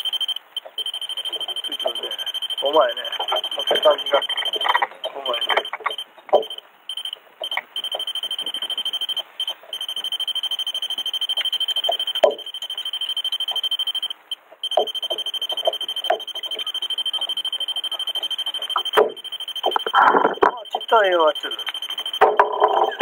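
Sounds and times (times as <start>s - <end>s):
rapid high-pitched electronic beeping: 0.0s - 23.0s.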